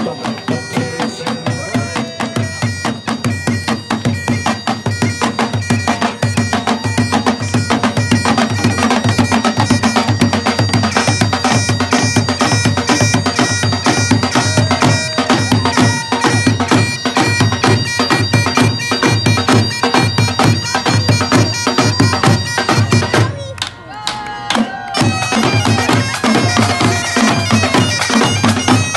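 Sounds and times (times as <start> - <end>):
bagpipes playing: 0.0 - 23.2, 25.0 - 28.9
snare and tenor drums: 0.0 - 23.4.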